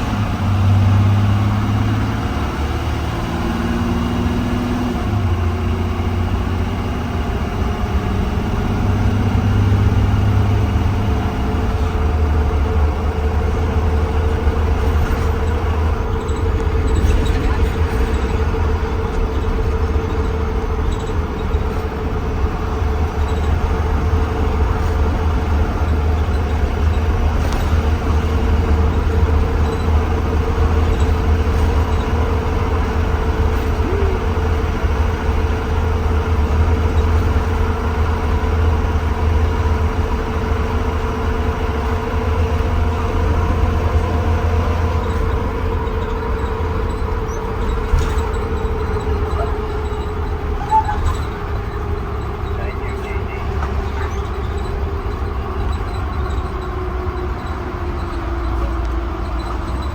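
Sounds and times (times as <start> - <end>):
bus engine and road rumble: 0.0 - 59.9
constant whine: 5.0 - 59.9.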